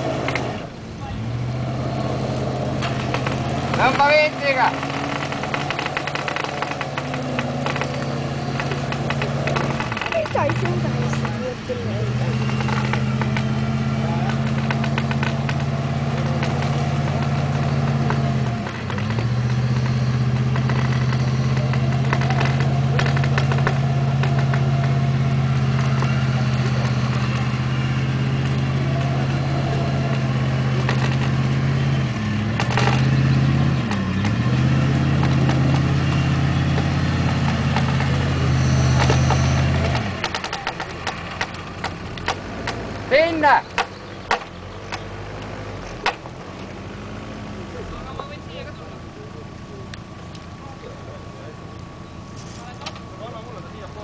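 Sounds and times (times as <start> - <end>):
winch motor droning: 0.0 - 54.0.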